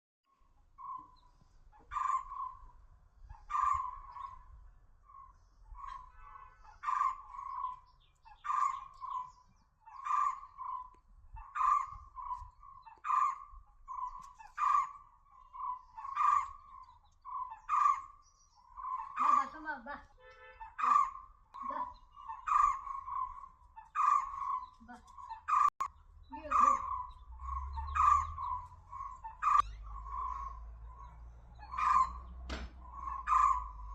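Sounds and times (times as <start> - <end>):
bird calling: 0.6 - 33.9.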